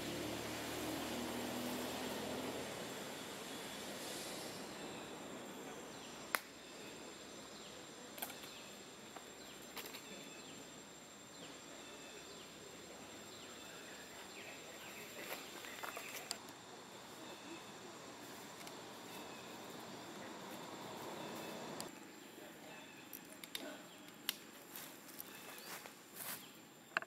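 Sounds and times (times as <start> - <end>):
insect drone: 0.0 - 27.0.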